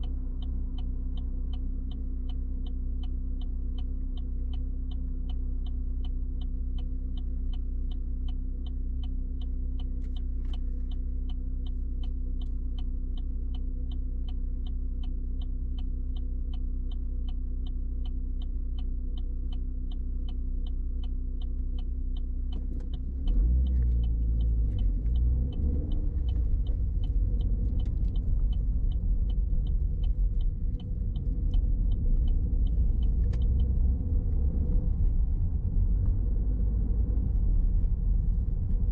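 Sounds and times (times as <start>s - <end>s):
car engine: 0.0s - 38.9s
road rumble: 0.0s - 38.9s
turn signal ticking: 0.0s - 38.9s.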